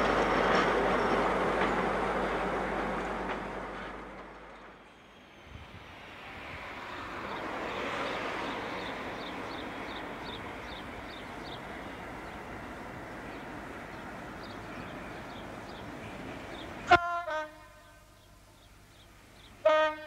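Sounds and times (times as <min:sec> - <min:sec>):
diesel locomotive running: 0:00.0 - 0:17.4
freight train rumble: 0:00.0 - 0:20.0.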